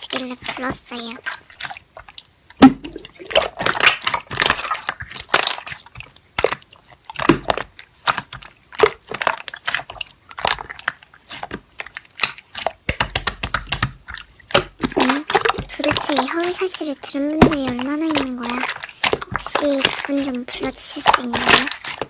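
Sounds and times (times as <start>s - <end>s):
slime squished by hand: 0.0s - 22.0s.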